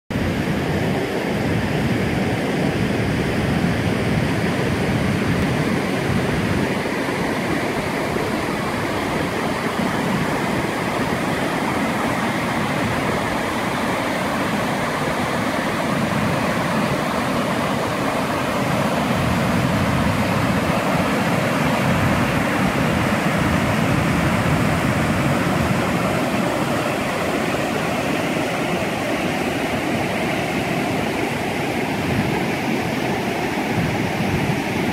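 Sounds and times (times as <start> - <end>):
river rushing over rapids: 0.1 - 34.9.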